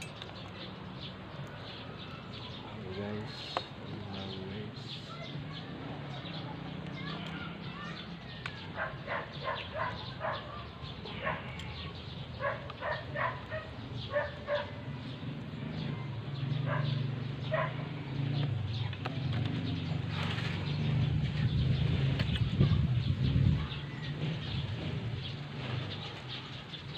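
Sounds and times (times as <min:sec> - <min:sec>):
birds calling: 0:00.0 - 0:26.9.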